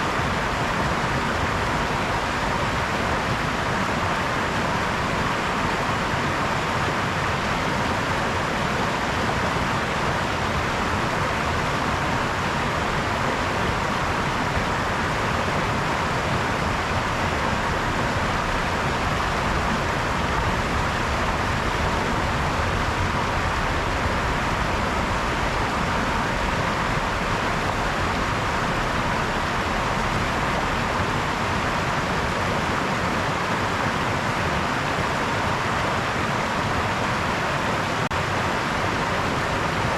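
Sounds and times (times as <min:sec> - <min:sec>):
brook running water: 0:00.0 - 0:39.9.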